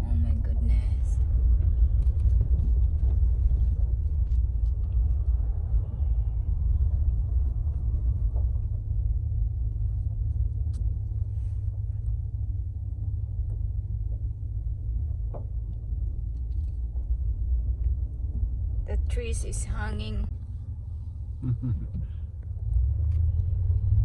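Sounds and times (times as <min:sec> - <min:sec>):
car driving rumble: 0:00.0 - 0:24.0.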